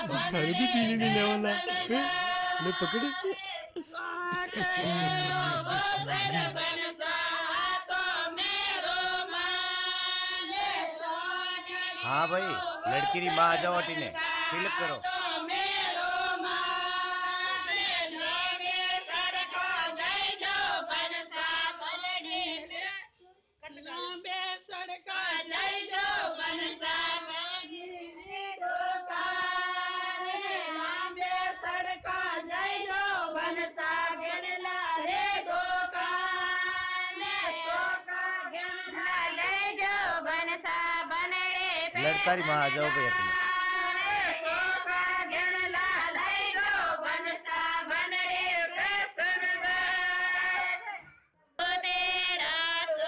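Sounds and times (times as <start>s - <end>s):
women singing unaccompanied: 0.0s - 53.0s.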